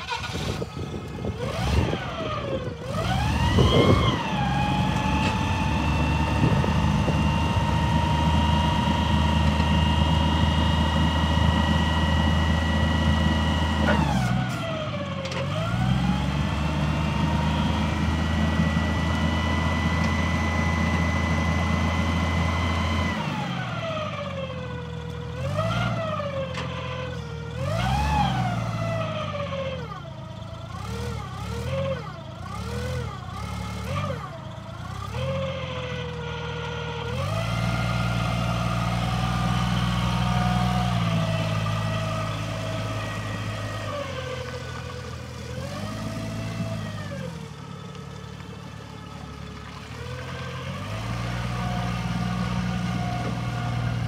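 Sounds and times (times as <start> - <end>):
forklift engine revving with whine: 0.0 - 54.0.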